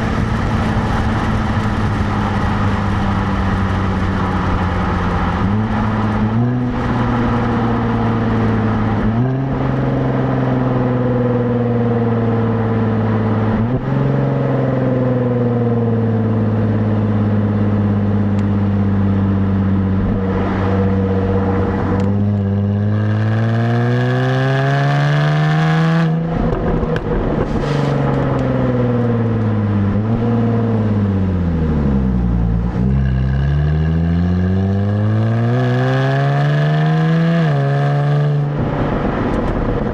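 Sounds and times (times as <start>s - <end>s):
car exhaust droning and revving: 0.0s - 39.9s.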